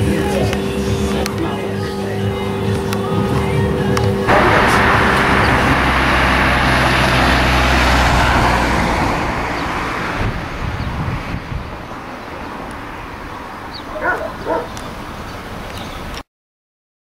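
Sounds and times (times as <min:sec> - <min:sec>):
vehicle passing by: 0:00.2 - 0:15.4.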